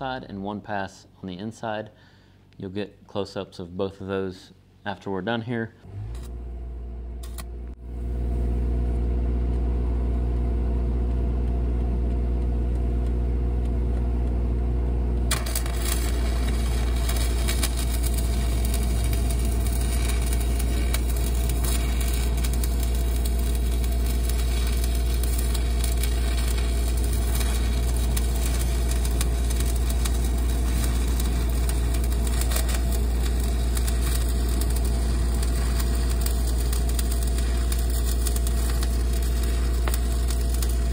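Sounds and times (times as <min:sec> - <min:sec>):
low engine hum: 0:05.9 - 0:40.9
welding arc crackling: 0:07.2 - 0:40.9.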